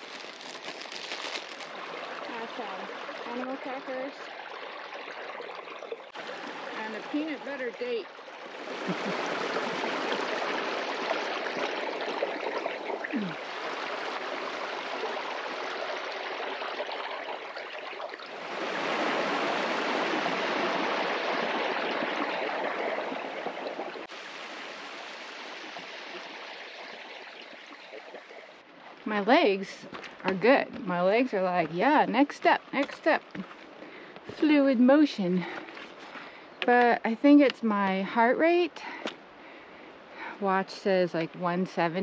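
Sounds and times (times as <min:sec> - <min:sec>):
mountain brook rushing: 0:00.0 - 0:42.0.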